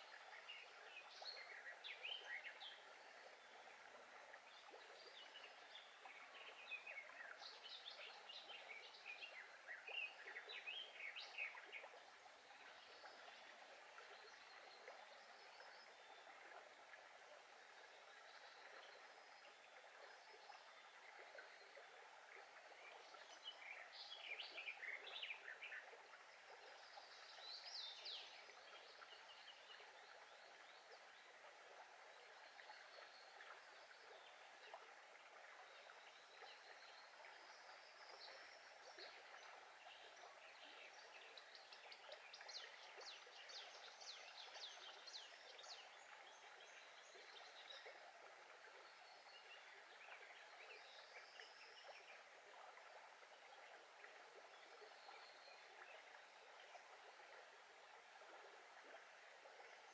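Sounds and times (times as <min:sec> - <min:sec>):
brook babbling: 0:00.0 - 0:59.9.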